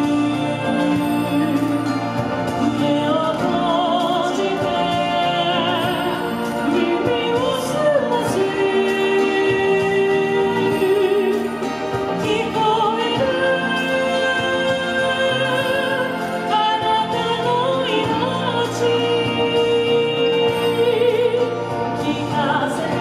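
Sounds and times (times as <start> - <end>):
instrumental accompaniment: 0.0 - 23.0
woman singing with vibrato: 0.0 - 23.0.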